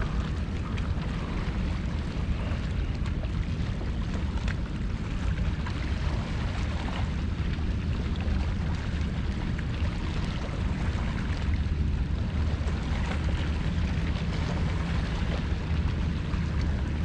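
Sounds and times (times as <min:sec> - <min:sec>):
water lapping against kayak hull: 0:00.0 - 0:17.0
wind rumble on microphone: 0:00.0 - 0:17.0.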